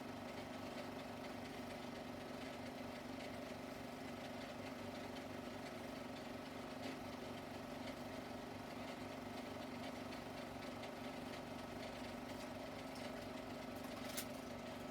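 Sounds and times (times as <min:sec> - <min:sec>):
film projector whirring: 0:00.0 - 0:14.9.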